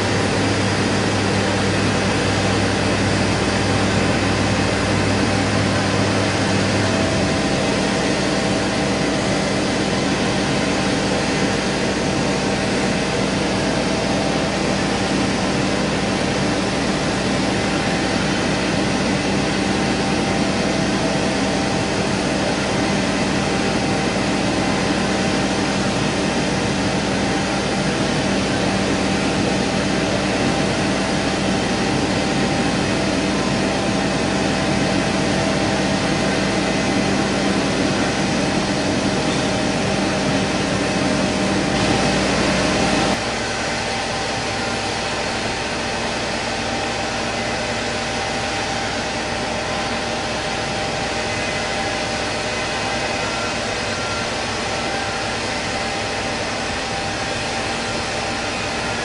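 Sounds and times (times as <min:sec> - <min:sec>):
engine and machinery drone: 0:00.0 - 0:59.0.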